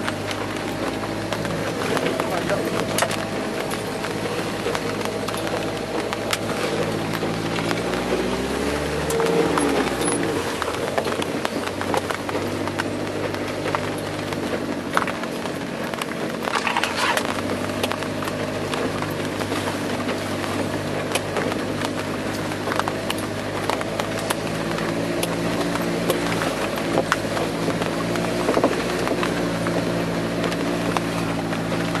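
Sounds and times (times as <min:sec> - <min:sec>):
car engine running under load: 0:00.0 - 0:32.0
knocks and rattles over rough track: 0:00.0 - 0:32.0
water spraying onto windscreen: 0:00.0 - 0:32.0.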